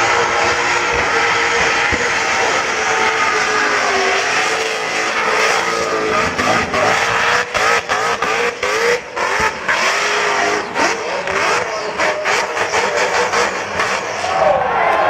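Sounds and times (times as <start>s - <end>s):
car engine revving hard: 0.0s - 14.6s.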